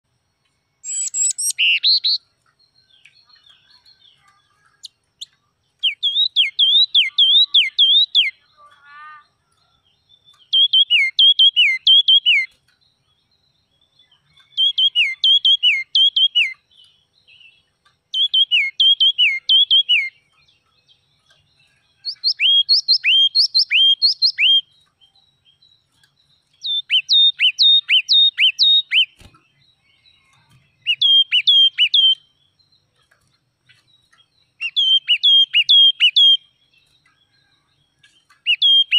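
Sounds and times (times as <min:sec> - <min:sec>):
bird singing downslurred notes: 0:00.8 - 0:38.9.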